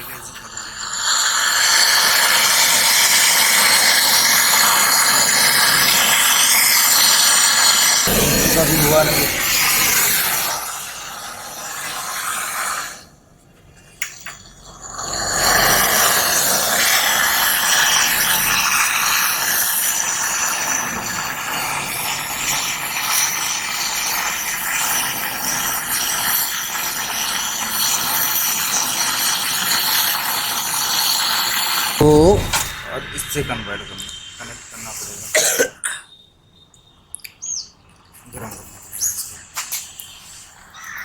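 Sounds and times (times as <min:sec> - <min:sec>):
gas torch flame hissing: 0:00.0 - 0:13.1, 0:14.6 - 0:35.4.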